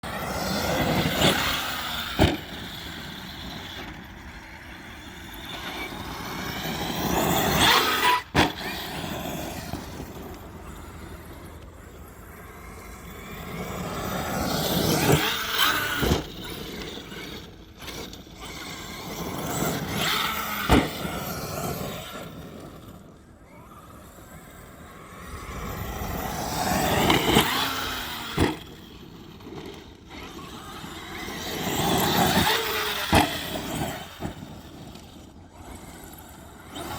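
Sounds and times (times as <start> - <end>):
rc truck motor whining: 0.0 - 36.9.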